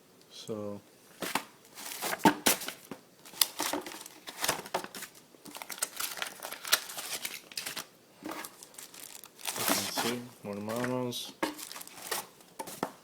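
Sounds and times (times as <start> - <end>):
paper rustling and crinkling: 1.2 - 13.0.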